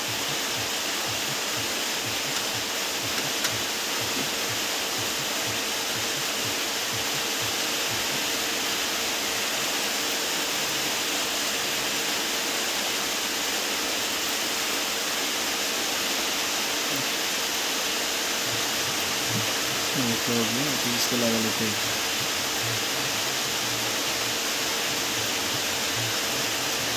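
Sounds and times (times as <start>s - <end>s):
faint steady hum: 0.0s - 26.9s
steady rushing hiss: 0.0s - 26.9s.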